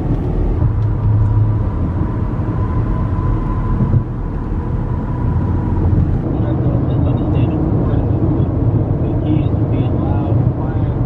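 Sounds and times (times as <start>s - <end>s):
tyre and engine rumble: 0.0s - 11.0s.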